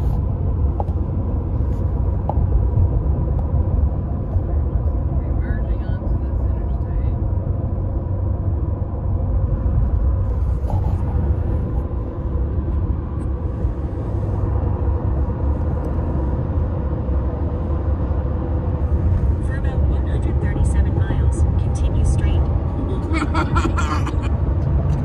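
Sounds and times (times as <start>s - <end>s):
car road rumble inside cabin: 0.0s - 25.0s.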